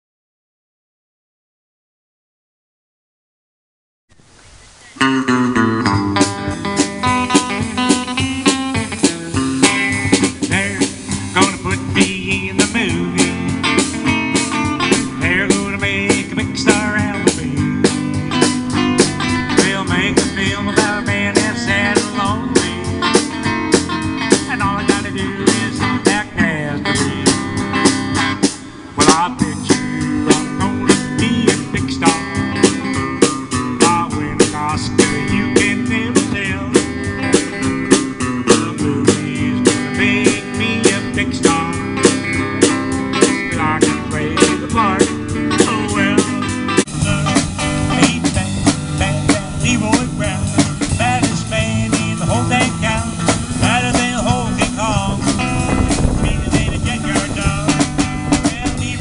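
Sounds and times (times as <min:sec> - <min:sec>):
electric guitar lead line: 0:04.7 - 0:59.0
steady drum beat: 0:06.1 - 0:59.0.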